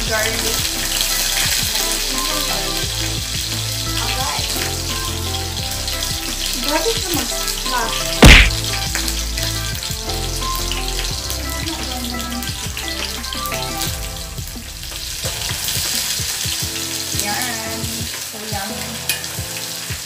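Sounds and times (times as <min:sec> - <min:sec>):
background music: 0:00.0 - 0:20.0
onions sizzling in oil: 0:00.1 - 0:20.0.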